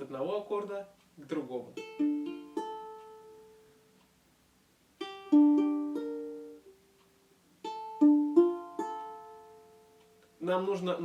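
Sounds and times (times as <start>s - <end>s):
ukulele chords: 1.2s - 4.0s, 5.0s - 11.0s.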